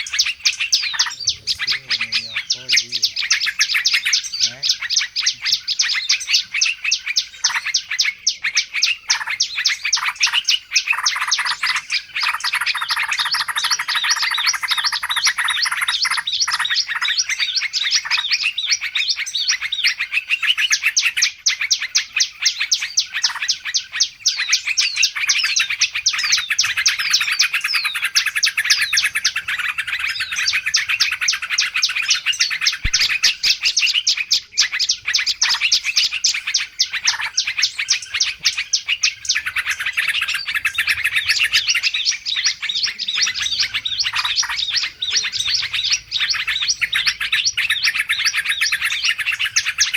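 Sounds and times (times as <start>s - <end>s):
many small birds chirping: 0.0s - 49.9s.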